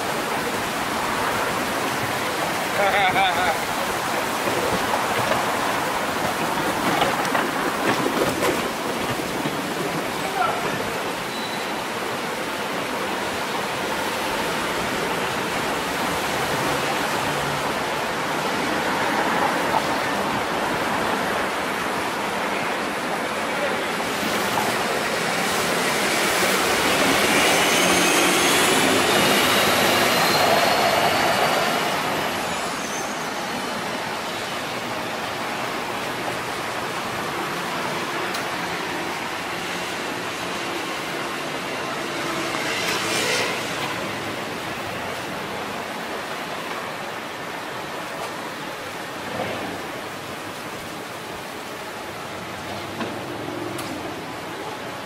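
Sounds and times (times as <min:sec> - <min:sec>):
street traffic passing: 0:00.0 - 0:55.0.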